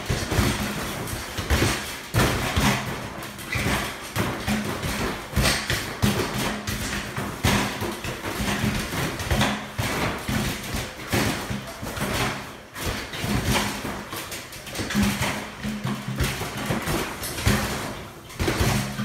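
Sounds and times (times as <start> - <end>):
balls hitting backboard and rim: 0.0 - 19.0.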